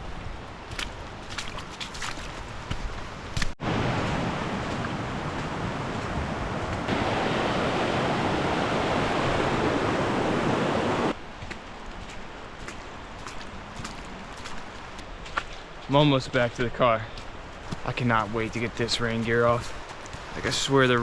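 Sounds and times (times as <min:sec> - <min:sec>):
rushing water roar: 0:00.0 - 0:21.0.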